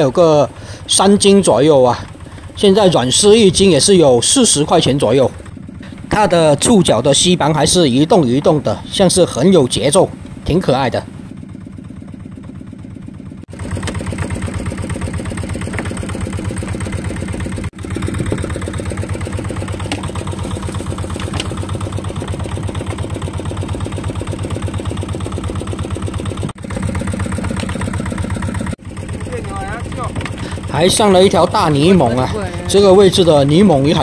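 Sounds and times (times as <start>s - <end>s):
boat engine chugging: 0.0s - 34.0s.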